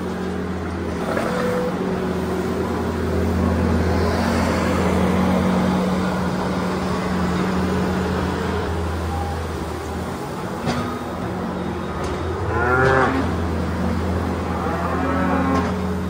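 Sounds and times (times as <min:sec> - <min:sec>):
diesel engine low hum: 0:00.0 - 0:16.0.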